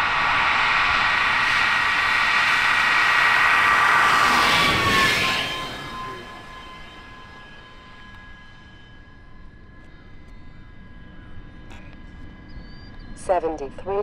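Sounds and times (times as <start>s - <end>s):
model jet engines whining: 0.0s - 14.0s.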